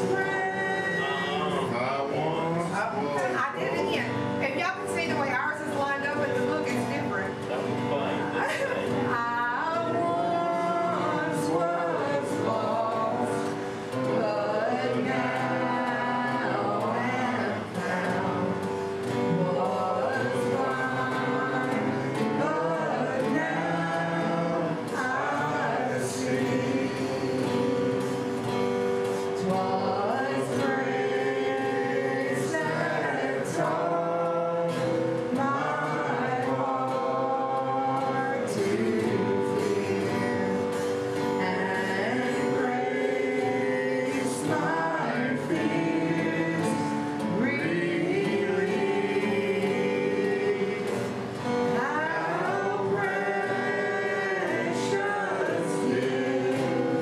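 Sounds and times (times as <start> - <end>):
woman singing: 0.0 - 7.4, 8.3 - 57.0
acoustic guitar: 0.0 - 57.0.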